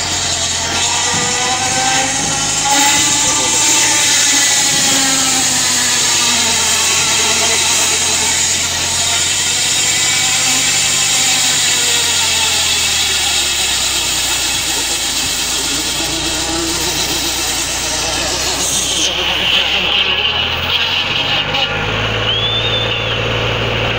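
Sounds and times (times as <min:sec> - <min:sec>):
circular saw cutting log: 0:00.0 - 0:23.9
tractor engine running: 0:00.0 - 0:23.9.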